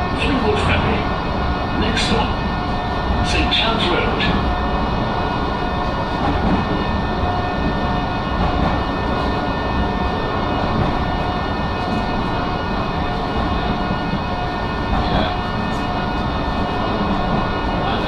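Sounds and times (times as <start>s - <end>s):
high electric whine: 0.0s - 18.0s
tram wheels rumbling on rails: 0.0s - 18.0s.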